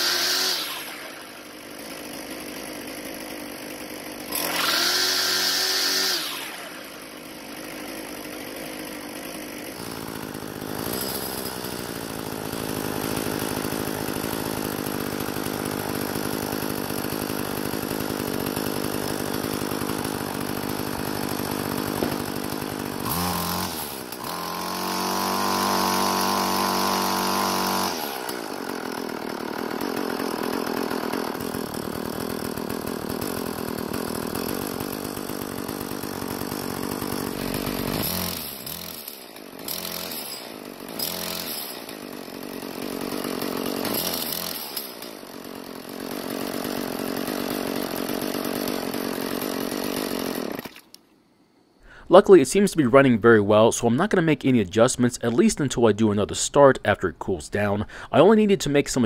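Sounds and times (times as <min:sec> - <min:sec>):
string trimmer engine revving: 0:00.0 - 0:51.0.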